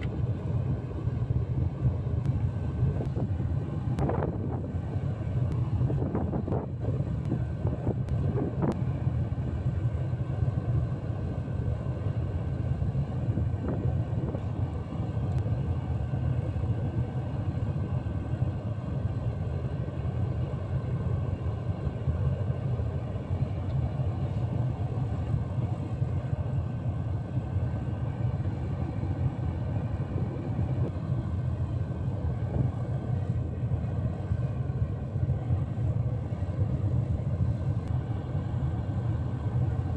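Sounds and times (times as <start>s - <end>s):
furnace burner roaring: 0.0s - 39.9s.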